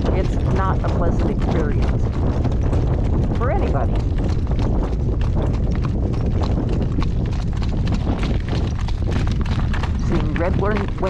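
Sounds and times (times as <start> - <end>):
horse hoofbeats clip-clop: 0.0 - 11.0
low rumble: 0.0 - 11.0.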